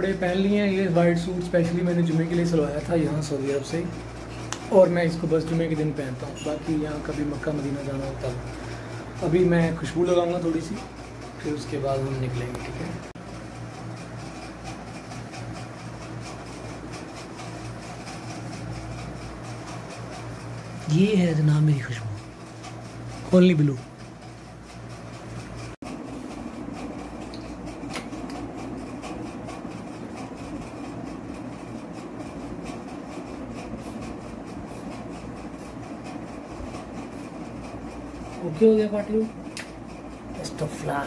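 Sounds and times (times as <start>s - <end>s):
room noise hum and hiss: 0.0s - 41.0s.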